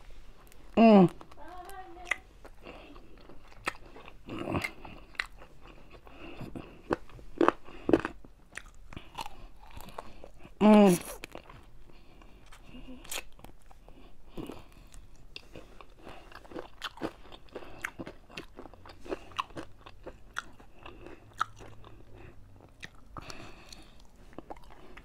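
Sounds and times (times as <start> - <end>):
chewing crispy chicken: 0.4 - 25.0.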